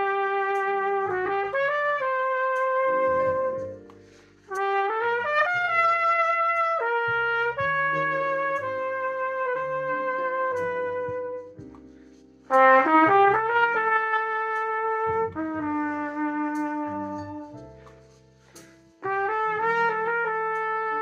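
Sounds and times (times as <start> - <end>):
trumpet playing slow melody: 0.0 - 11.7, 12.5 - 18.0, 19.0 - 21.0.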